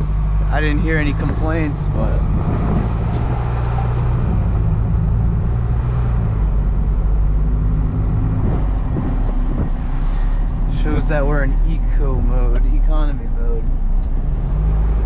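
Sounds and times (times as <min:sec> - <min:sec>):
road noise: 0:00.0 - 0:15.0
truck diesel engine droning: 0:00.0 - 0:15.0.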